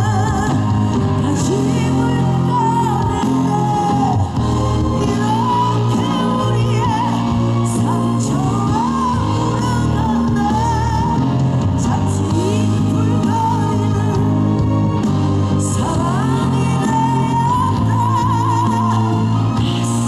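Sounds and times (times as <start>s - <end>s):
pop-rock band playing: 0.0s - 20.0s.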